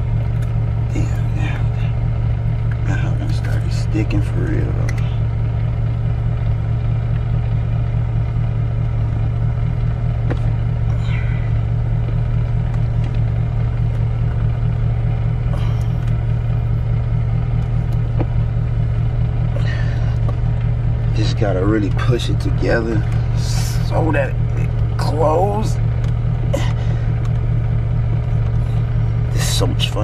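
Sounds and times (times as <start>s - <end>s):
car air conditioning hum: 0.0s - 30.0s.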